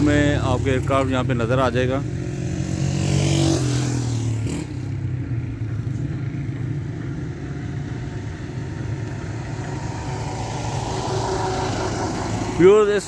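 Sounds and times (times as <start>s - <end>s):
passing vehicle engine: 0.0s - 13.0s
traffic rumble: 0.0s - 13.0s.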